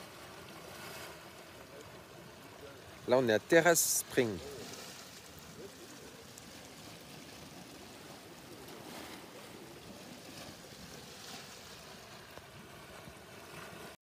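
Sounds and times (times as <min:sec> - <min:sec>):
spring water hissing and bubbling: 0:00.0 - 0:14.0.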